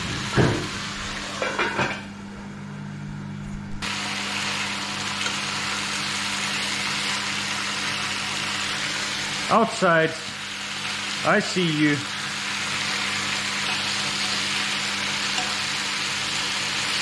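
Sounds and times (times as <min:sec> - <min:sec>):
meat sizzling in frying pan: 0:00.0 - 0:01.6, 0:03.8 - 0:17.0.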